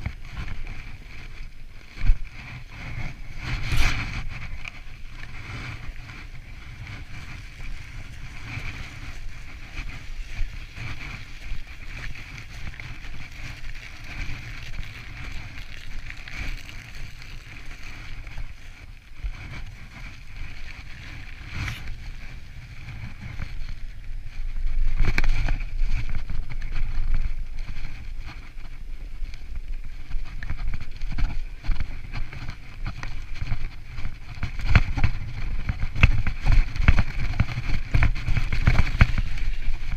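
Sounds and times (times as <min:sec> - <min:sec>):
bike tyres rumbling on snow: 0:00.0 - 0:39.9
wind on microphone: 0:00.0 - 0:39.9.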